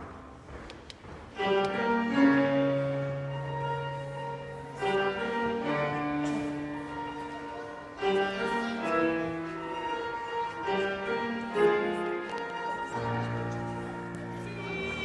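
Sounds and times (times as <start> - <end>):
strings and piano music: 0.0 - 15.0.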